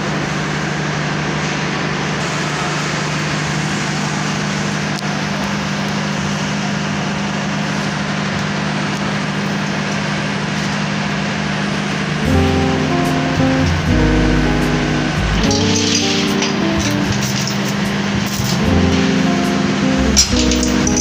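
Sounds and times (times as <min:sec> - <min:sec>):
industrial machinery running: 0:00.0 - 0:21.0
low motor hum: 0:00.0 - 0:21.0.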